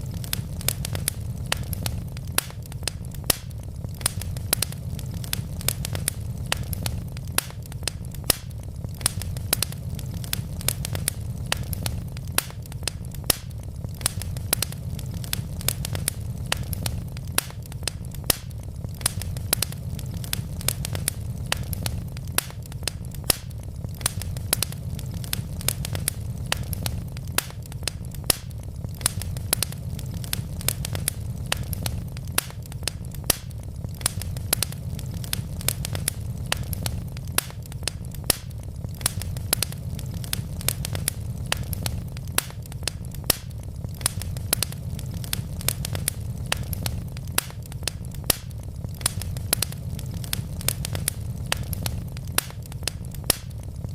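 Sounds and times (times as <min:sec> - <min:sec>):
burning logs crackling and popping: 0:00.0 - 0:53.9
fire rumbling: 0:00.0 - 0:53.9.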